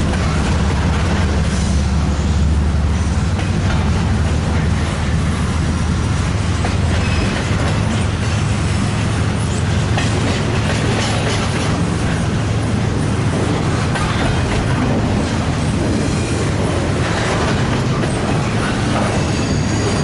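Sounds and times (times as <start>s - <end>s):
train rumbling on track: 0.0s - 20.0s
wheel-on-rail noise: 0.0s - 20.0s.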